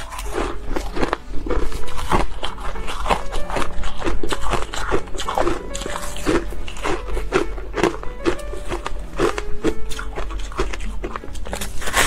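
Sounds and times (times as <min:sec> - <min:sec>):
background music: 0:00.0 - 0:12.0
ice being crunched and chewed: 0:00.0 - 0:12.0.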